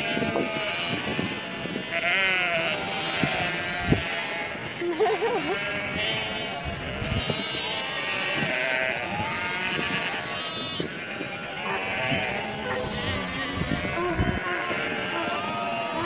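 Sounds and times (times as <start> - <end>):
flock of sheep bleating: 0.0 - 16.0.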